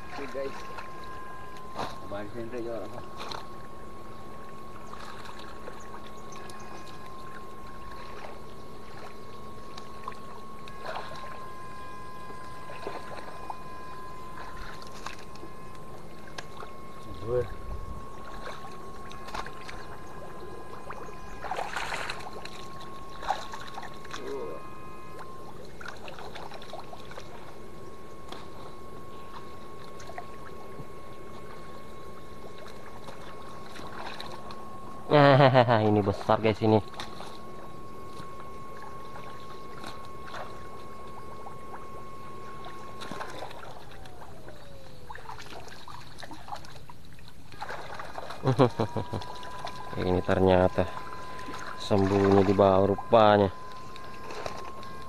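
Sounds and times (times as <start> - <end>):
water sloshing and splashing: 0.0 - 2.1, 2.9 - 3.8, 4.4 - 34.7, 36.1 - 55.0
steady high whine: 0.0 - 55.0.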